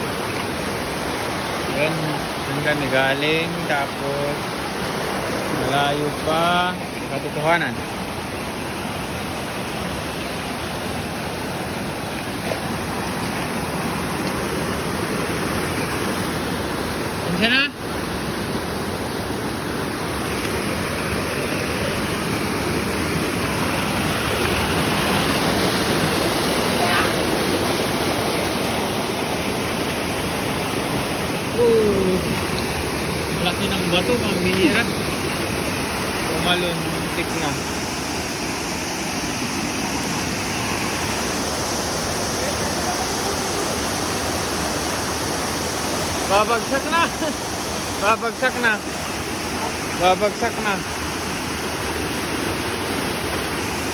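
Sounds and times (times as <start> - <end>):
rushing stream and waterfall: 0.0 - 53.9.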